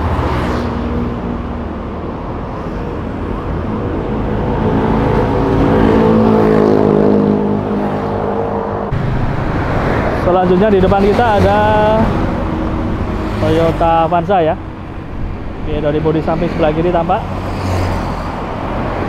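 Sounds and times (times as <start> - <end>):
vehicle engine passing by: 3.5 - 19.0.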